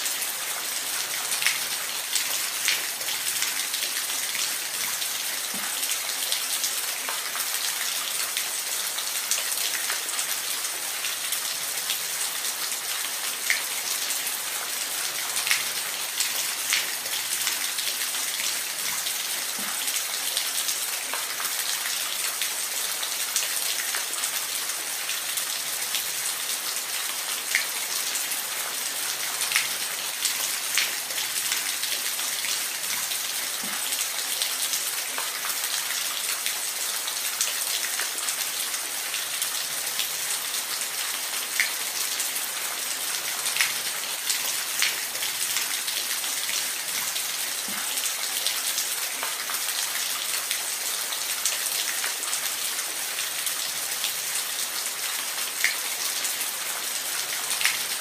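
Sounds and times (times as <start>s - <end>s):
water drips and splashes: 0.0s - 58.0s.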